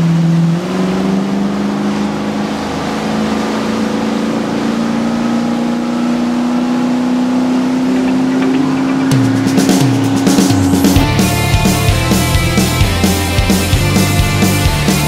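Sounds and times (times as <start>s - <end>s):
motorboat engine running: 0.0s - 15.0s
water rushing in wake: 0.0s - 15.0s.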